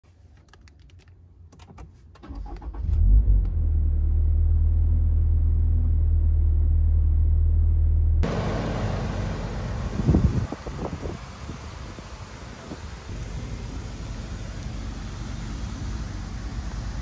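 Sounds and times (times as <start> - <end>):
car engine starting and idling: 1.6 - 17.0.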